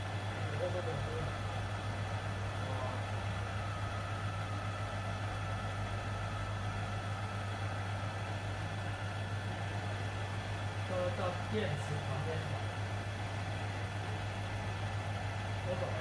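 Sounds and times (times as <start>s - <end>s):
fan whirring: 0.0s - 16.0s
low electrical hum: 0.0s - 16.0s.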